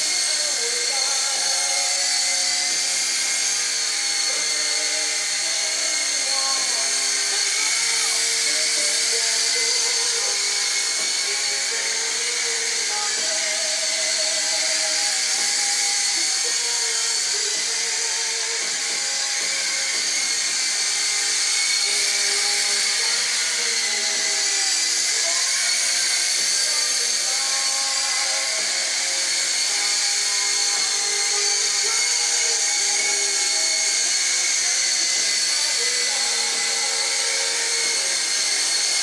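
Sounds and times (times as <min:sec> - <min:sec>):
toy helicopter motors whining: 0:00.0 - 0:39.0.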